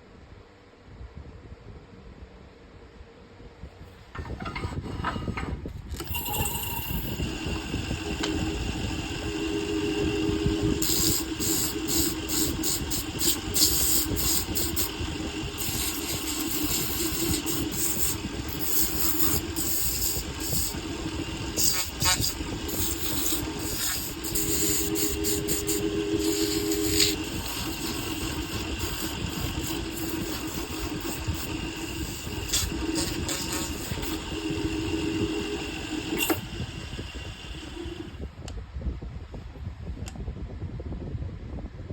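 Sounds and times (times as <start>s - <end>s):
tool scraping spinning wood: 4.1s - 38.2s
lathe motor humming: 4.2s - 38.2s.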